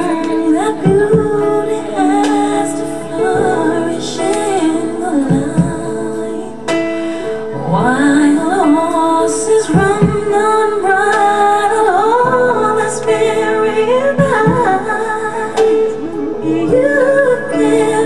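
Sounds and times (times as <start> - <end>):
instrumental accompaniment: 0.0 - 18.0
woman singing: 0.0 - 18.0.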